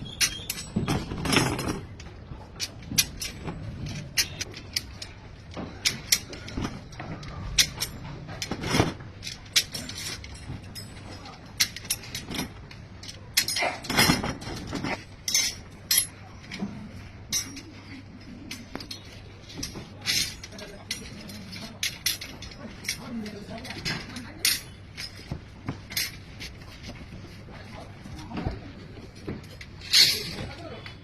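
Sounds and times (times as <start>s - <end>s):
metallic clicks of wire tying: 0.0s - 27.2s.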